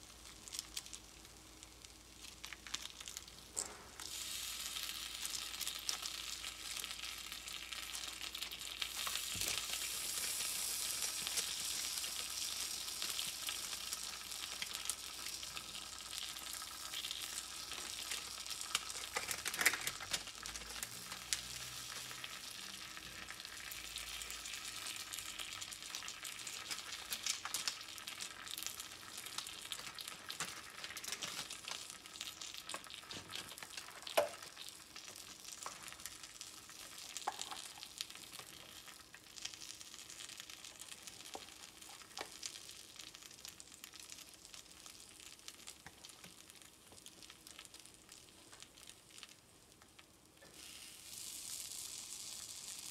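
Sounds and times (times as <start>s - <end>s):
food sizzling: 0.0s - 52.9s.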